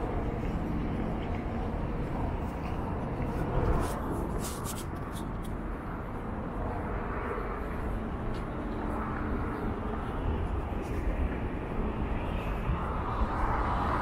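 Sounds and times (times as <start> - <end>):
faint engine hum: 0.0 - 14.0
road traffic rumble: 0.0 - 14.0.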